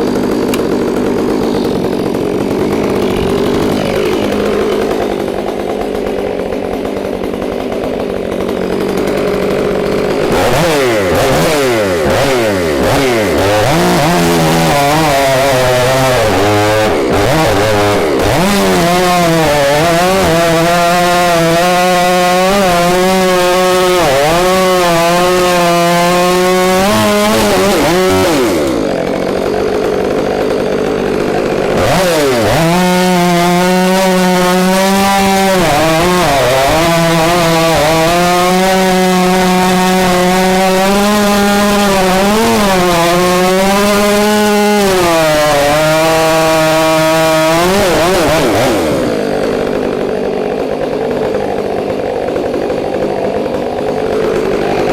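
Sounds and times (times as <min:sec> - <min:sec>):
chainsaw cutting through log: 0:00.0 - 0:54.9.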